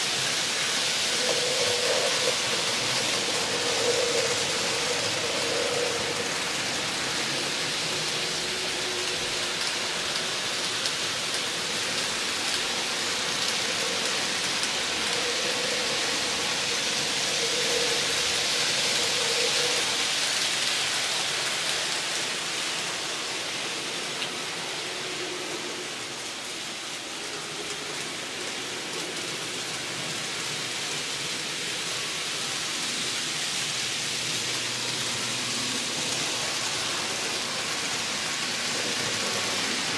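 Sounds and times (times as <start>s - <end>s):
model train wheels on rail: 0.0s - 39.9s.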